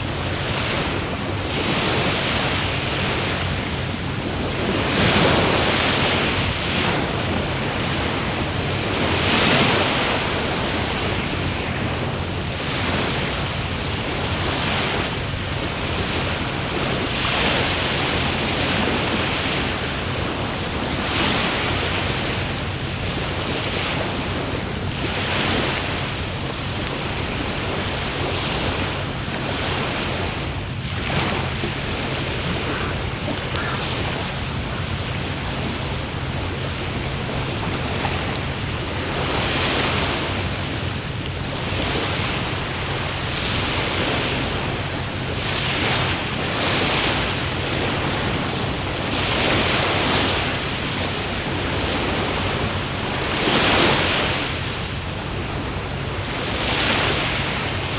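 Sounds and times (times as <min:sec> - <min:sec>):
bonfire crackling: 0:00.0 - 0:49.6, 0:50.7 - 0:56.6
steady rushing noise: 0:00.0 - 0:55.9.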